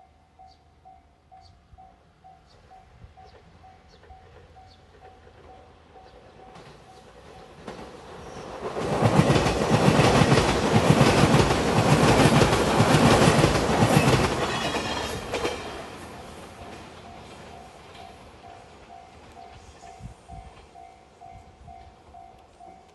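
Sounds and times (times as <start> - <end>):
electric train passing at speed: 0.0 - 22.9.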